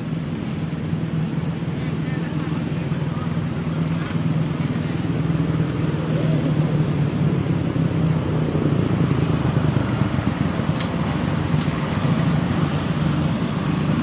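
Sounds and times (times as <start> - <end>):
high-pitched hiss: 0.0 - 14.0
low engine-like hum: 0.0 - 14.0.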